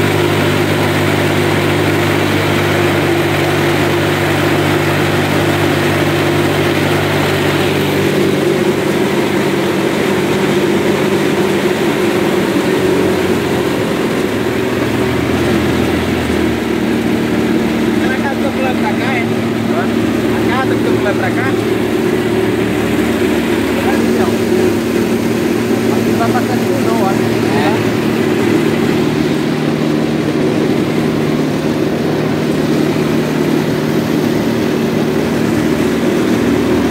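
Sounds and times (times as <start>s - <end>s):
boat engine running: 0.0s - 36.9s
rushing water jet and wake: 0.0s - 36.9s.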